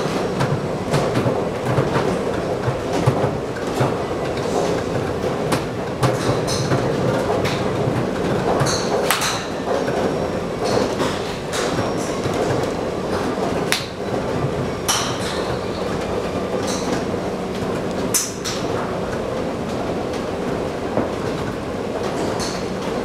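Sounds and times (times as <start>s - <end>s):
golf clubs striking balls: 0.1s - 16.0s, 16.6s - 18.9s, 22.1s - 22.7s.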